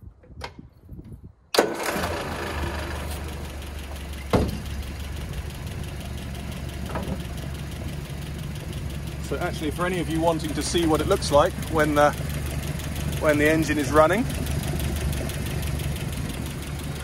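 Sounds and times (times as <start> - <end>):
car engine starting and idling: 1.5 - 17.0.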